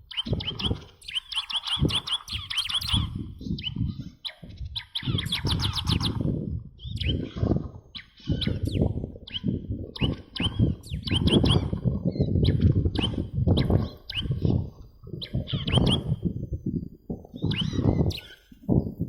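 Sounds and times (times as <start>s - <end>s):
bird sharp chirps: 0.0s - 19.0s
pulsing low noise: 0.0s - 19.0s.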